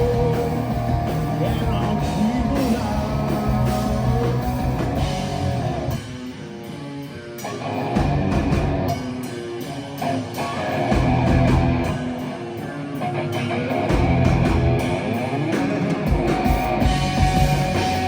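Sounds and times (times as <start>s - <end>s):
bass guitar: 0.0s - 18.0s
drums: 0.0s - 18.0s
electric guitars: 0.0s - 18.0s.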